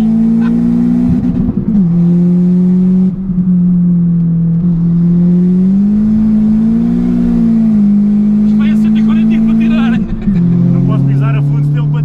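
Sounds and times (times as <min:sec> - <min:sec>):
car engine heard from cabin: 0:00.0 - 0:12.0.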